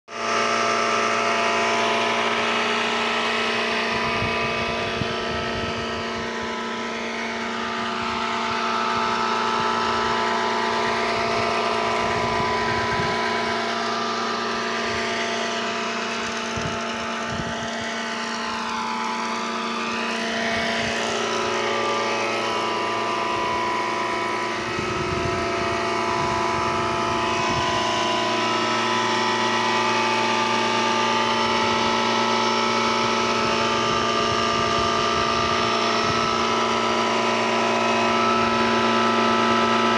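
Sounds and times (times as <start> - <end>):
wood planer running: 0.0 - 39.9.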